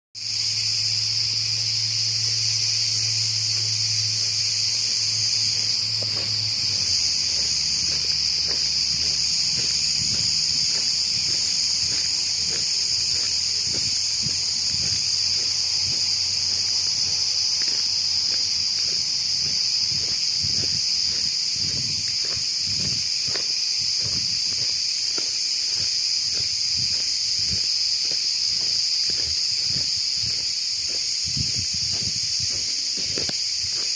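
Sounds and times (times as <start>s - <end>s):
crickets chirring: 0.2s - 33.9s.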